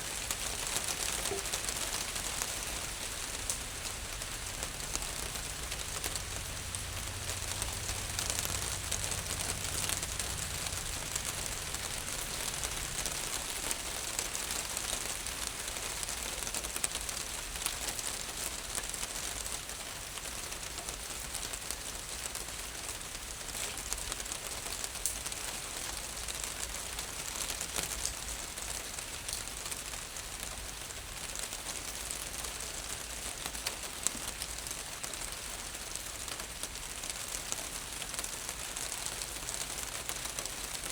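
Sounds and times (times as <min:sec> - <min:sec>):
rain on a roof: 0:00.0 - 0:40.9.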